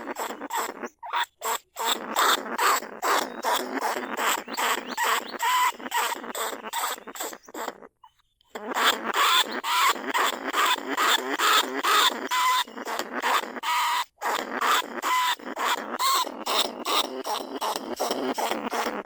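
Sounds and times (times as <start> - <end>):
rats squeaking: 0.0 - 7.9, 8.6 - 19.0.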